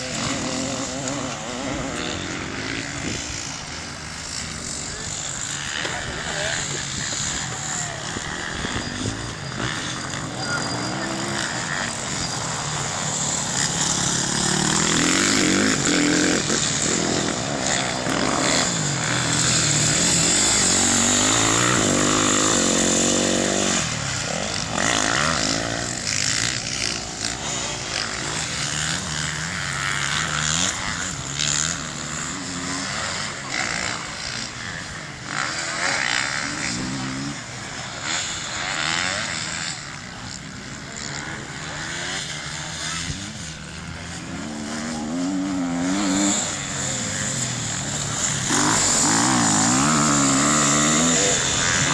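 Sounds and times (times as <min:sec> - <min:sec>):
motorcycle engines revving past: 0:00.0 - 0:51.9.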